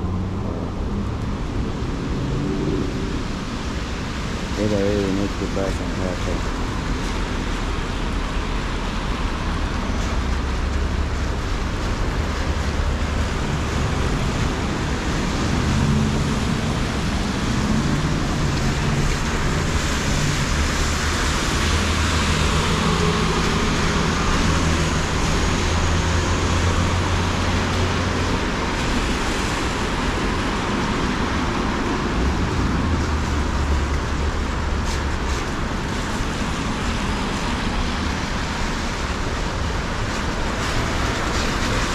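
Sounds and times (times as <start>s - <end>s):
city street traffic: 0.0s - 41.9s.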